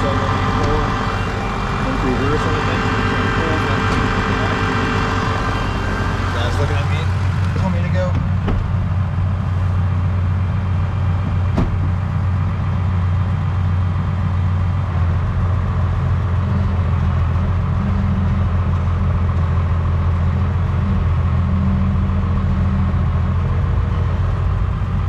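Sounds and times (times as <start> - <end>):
tractor engine humming: 0.0 - 25.0.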